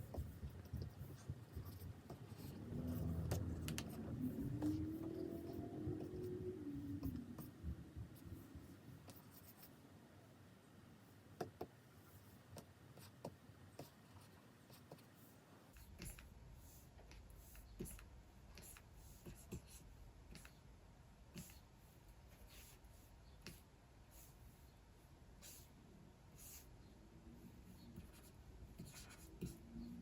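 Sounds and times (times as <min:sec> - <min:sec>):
stylus scratching on pen display: 0:00.0 - 0:09.8, 0:12.1 - 0:20.6, 0:21.3 - 0:24.8, 0:27.5 - 0:30.0.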